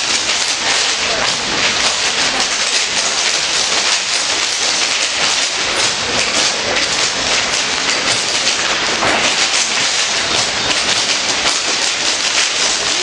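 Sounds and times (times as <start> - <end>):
dance shoes tapping on hard floor: 0.0 - 13.0.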